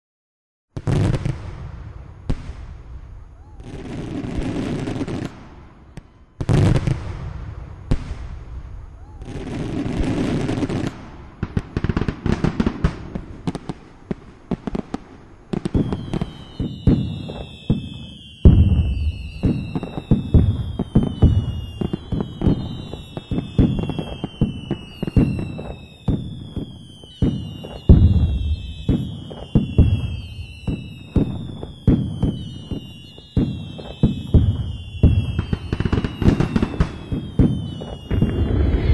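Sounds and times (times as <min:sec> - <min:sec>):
fireworks booming and crackling: 0:00.7 - 0:38.9
fireworks falling whistles: 0:00.8 - 0:38.9.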